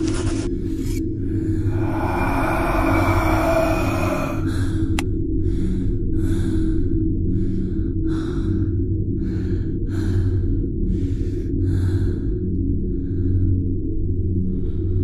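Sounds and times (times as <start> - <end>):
low hum: 1.2 - 13.9
person breathing hard: 1.3 - 13.7.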